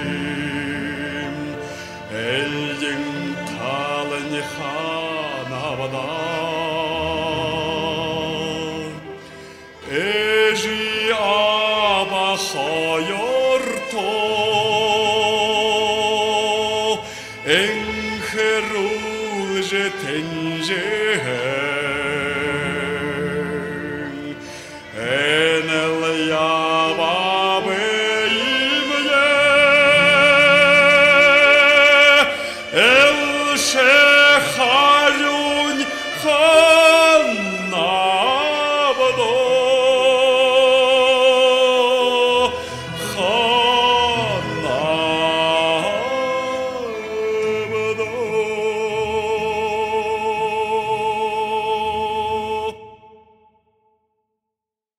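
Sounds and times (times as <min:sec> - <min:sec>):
folk instruments: 0:00.0 - 0:53.5
man singing with vibrato: 0:00.0 - 0:53.5.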